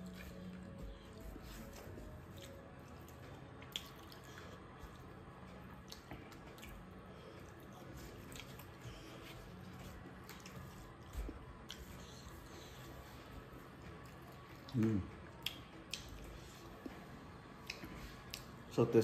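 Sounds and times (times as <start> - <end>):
wet chewing: 0.0 - 13.0, 13.6 - 17.0.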